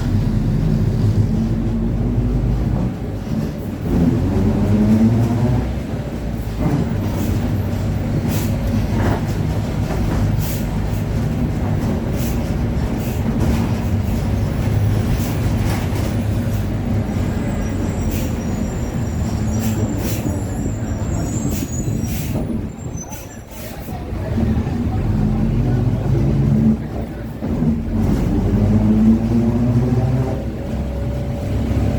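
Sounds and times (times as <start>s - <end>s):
bus drivetrain growling: 0.0s - 31.9s.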